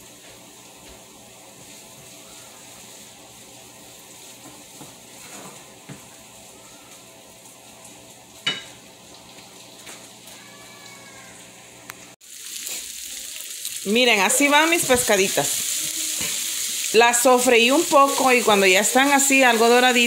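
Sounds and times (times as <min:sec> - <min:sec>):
fish sizzling in oil: 0:00.0 - 0:11.2, 0:12.2 - 0:20.0.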